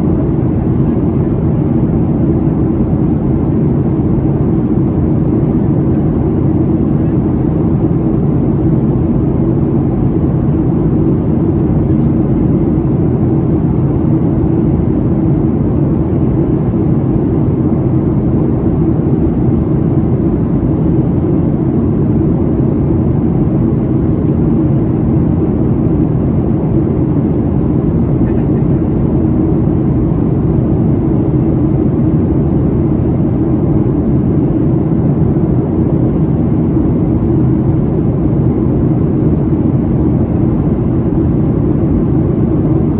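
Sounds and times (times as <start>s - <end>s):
airliner cabin drone: 0.0s - 42.9s.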